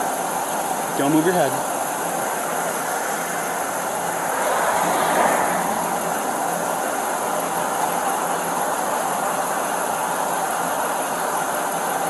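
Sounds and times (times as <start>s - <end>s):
roadside vehicle noise: 0.0s - 12.0s.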